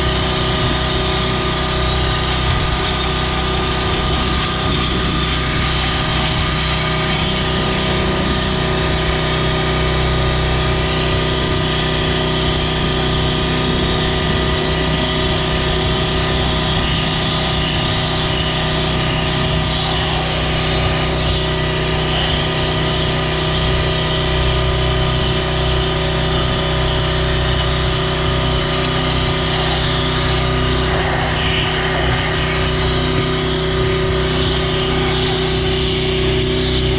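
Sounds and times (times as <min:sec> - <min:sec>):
high-pressure water hissing: 0:00.0 - 0:36.9
pressure washer engine running: 0:00.0 - 0:36.9.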